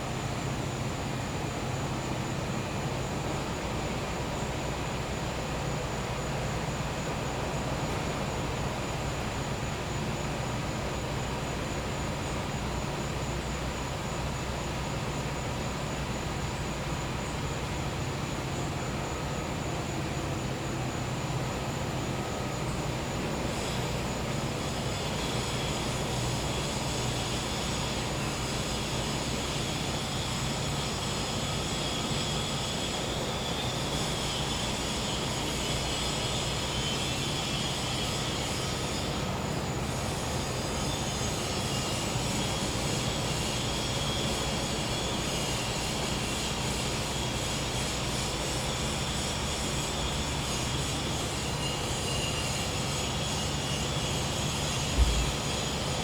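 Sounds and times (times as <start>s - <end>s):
high-pitched insect chorus: 4.4s - 56.0s.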